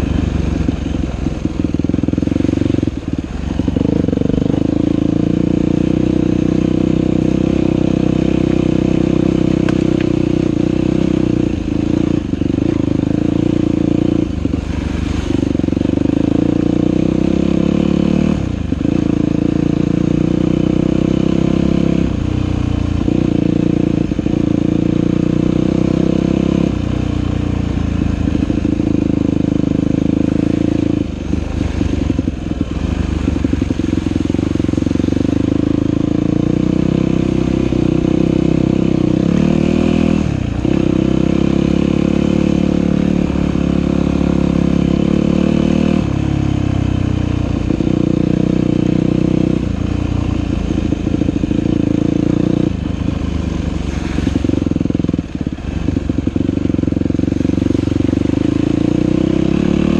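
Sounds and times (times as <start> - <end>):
dirt bike engine revving: 1.6 - 22.2, 23.0 - 59.9.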